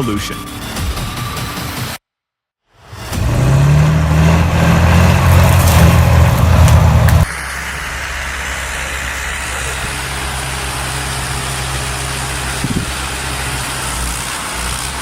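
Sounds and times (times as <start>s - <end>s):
large engine running: 2.8s - 15.0s.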